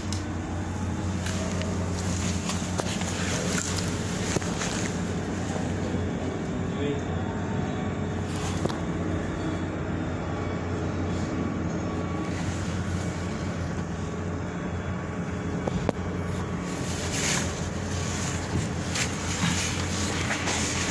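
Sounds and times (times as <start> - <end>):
crane engine droning: 0.0 - 20.9.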